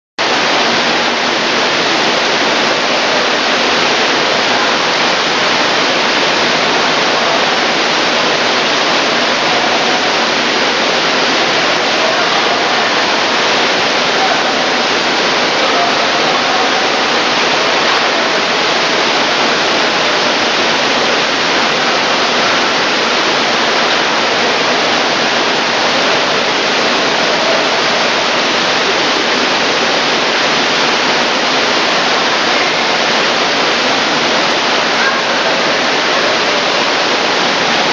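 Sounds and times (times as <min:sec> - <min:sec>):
water gushing into a pool: 0:00.2 - 0:37.9.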